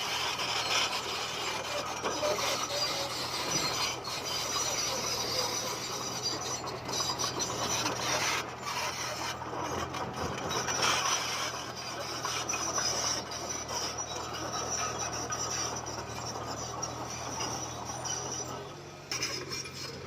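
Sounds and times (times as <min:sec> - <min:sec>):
bulldozer engine droning: 0:00.0 - 0:20.0
steel scraping on stone: 0:00.0 - 0:20.0.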